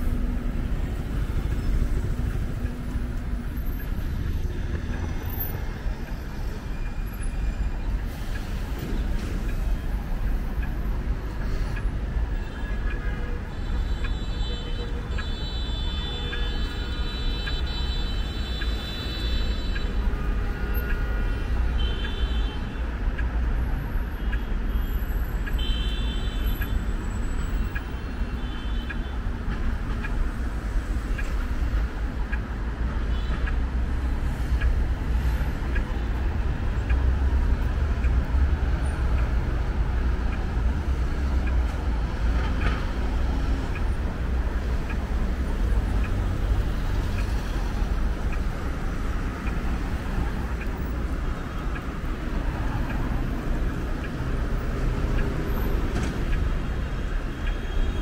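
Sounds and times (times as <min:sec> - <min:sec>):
traffic rumble: 0:00.0 - 0:58.0.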